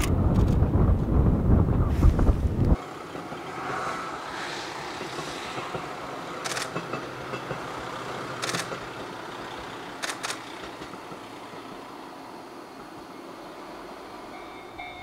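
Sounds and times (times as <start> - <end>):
vehicle engine hum: 0.0 - 14.3.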